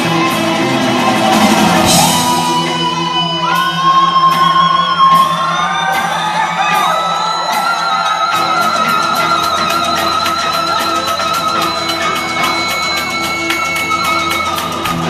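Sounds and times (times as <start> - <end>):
live band playing mariachi music: 0.0 - 15.0
people shouting: 0.0 - 15.0
sliding lead guitar notes: 0.0 - 15.0.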